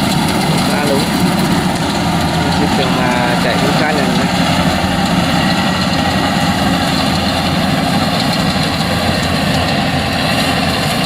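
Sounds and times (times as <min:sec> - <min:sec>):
combine harvester engines droning: 0:00.0 - 0:11.0.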